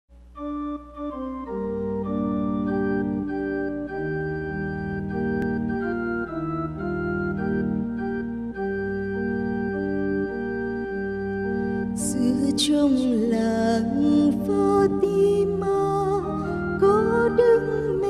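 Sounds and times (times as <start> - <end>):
organ playing sustained chords: 0.2 - 18.0.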